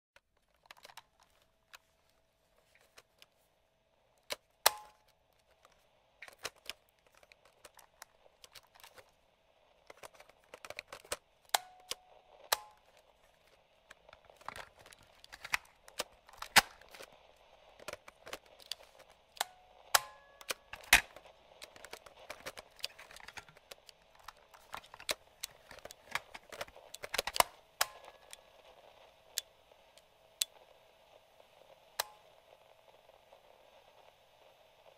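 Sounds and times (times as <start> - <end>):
radio static hiss: 0.8 - 34.9.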